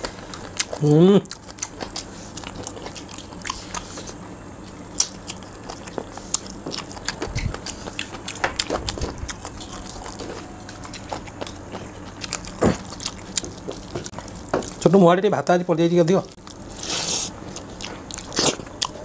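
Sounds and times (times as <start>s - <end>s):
biting and chewing: 0.0s - 14.9s, 16.3s - 19.0s.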